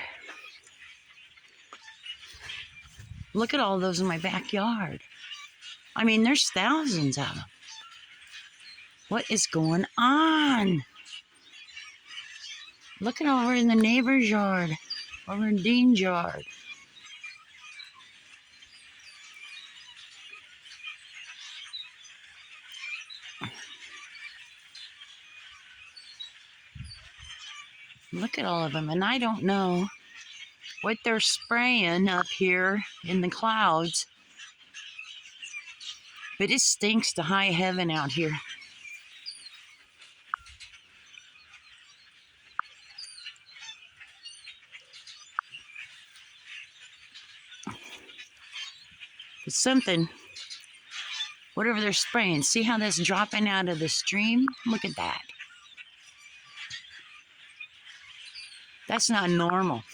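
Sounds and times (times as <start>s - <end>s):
flock of birds chirping: 0.0s - 59.9s.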